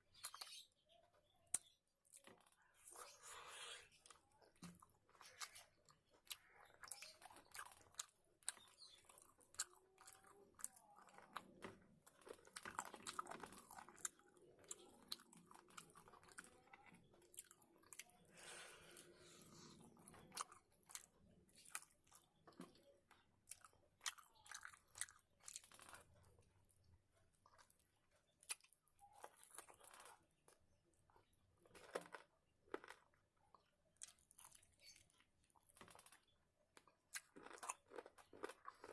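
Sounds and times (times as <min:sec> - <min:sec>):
person chewing crunchy food: 0:01.4 - 0:38.9.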